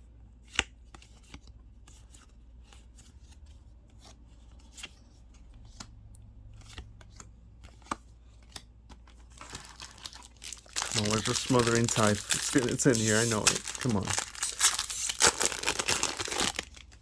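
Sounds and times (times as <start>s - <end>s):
cards sliding and snapping: 0.4s - 6.0s, 6.6s - 9.6s, 11.0s - 16.7s.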